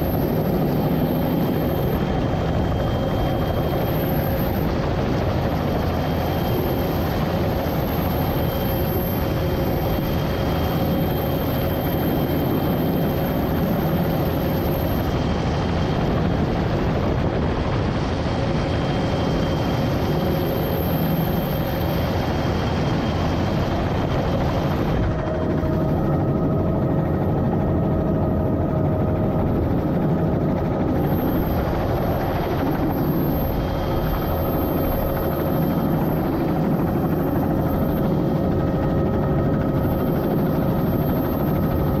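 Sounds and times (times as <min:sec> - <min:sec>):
faint steady tones: 0:00.0 - 0:42.0
helicopter engine and rotor: 0:00.0 - 0:42.0.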